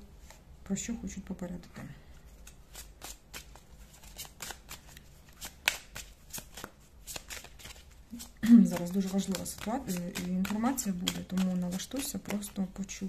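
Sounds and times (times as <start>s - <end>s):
cards being shuffled: 2.2s - 13.0s.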